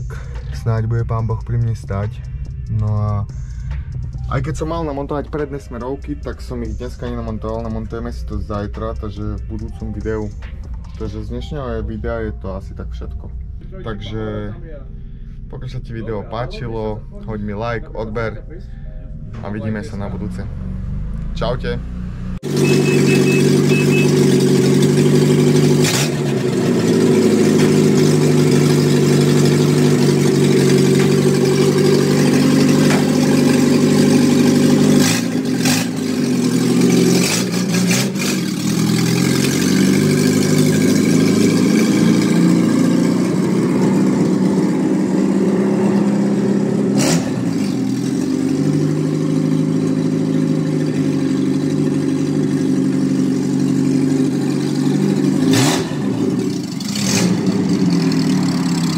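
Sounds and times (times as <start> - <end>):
car engine running: 0.0 - 58.9.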